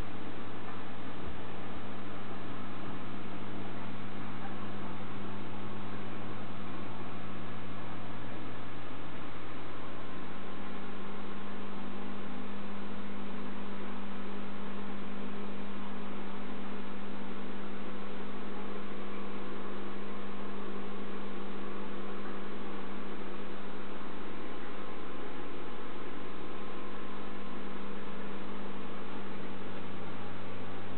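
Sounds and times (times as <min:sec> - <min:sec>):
mains hum: 0:00.0 - 0:30.9.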